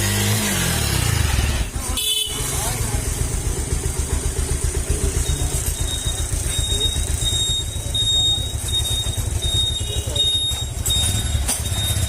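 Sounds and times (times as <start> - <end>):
motorcycle engine idling: 1.6 - 12.0.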